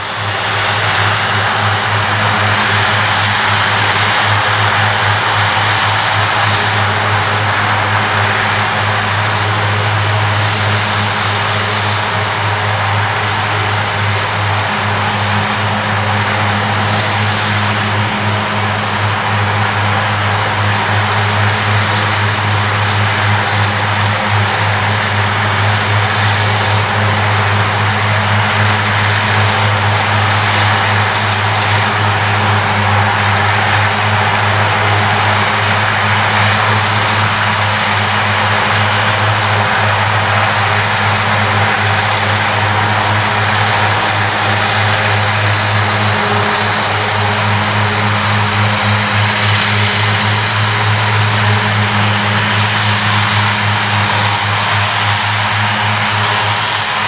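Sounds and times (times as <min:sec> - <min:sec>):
diesel engine hum: 0:00.0 - 0:57.0
mowing units whirring: 0:00.0 - 0:57.0.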